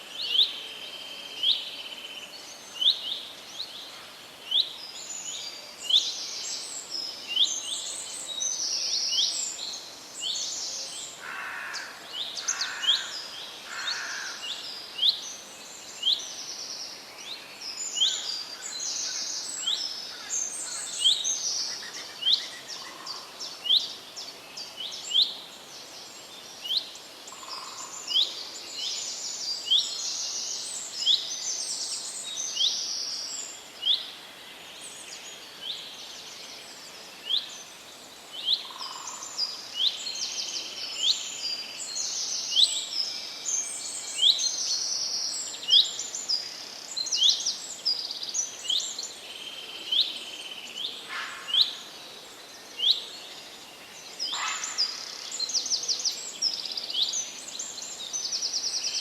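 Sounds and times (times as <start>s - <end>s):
light steady hiss: 0.0s - 59.0s.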